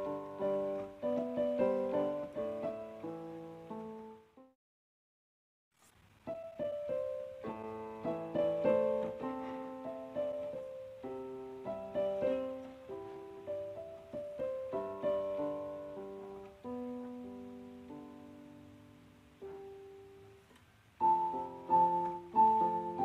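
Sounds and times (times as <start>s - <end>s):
slow piano melody: 0.0s - 4.6s, 6.2s - 23.0s.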